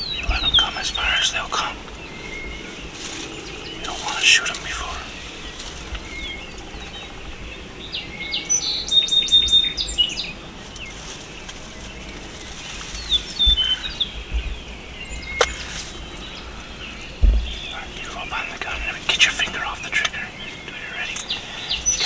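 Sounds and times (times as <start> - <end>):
songbirds chirping and whistling: 0.0 - 22.0.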